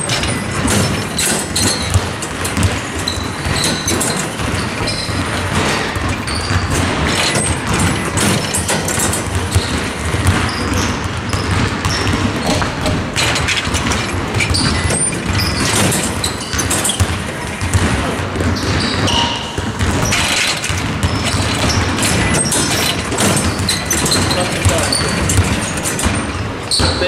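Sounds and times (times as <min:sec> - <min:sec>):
basketballs bouncing on hardwood: 0:00.0 - 0:27.0
sneakers squeaking on court: 0:00.0 - 0:27.0.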